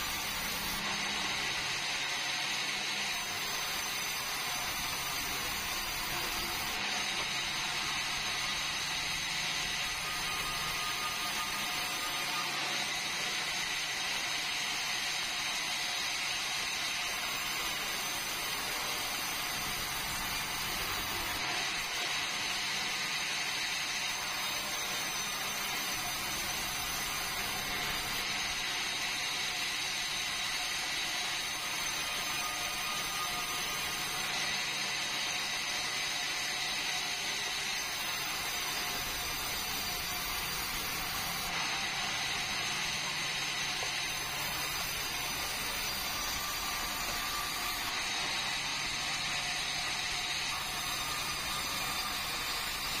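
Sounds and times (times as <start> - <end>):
band saw cutting boards: 0.0 - 53.0.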